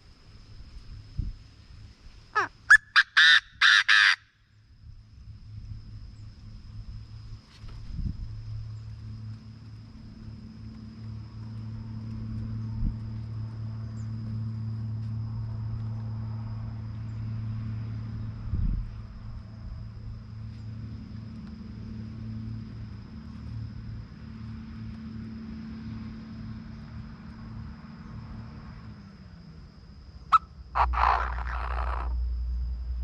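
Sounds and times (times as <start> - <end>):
low mechanical hum: 0.0 - 2.9, 4.2 - 33.0
high insect tone: 0.0 - 33.0.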